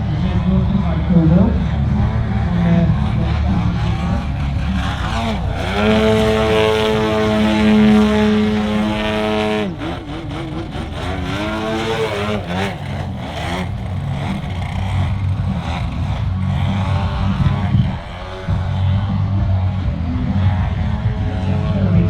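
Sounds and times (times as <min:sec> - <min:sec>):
model plane engine and propeller: 0:00.0 - 0:22.0.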